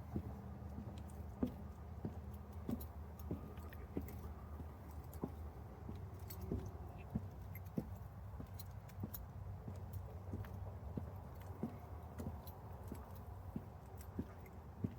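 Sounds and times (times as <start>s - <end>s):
distant road traffic rumble: 0.0s - 14.9s
footsteps on a path: 0.0s - 14.9s.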